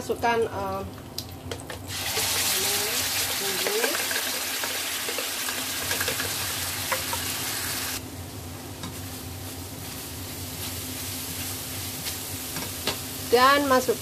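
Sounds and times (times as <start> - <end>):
spice paste sizzling in oil: 1.9 - 14.0.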